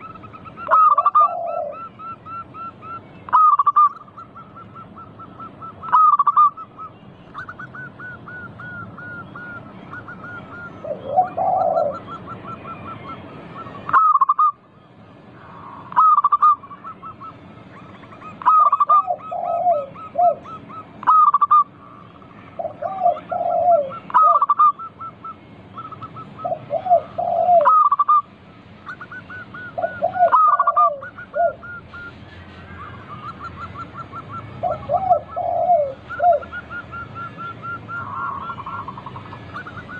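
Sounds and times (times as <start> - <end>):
doves cooing: 0.0 - 14.6, 15.4 - 39.9.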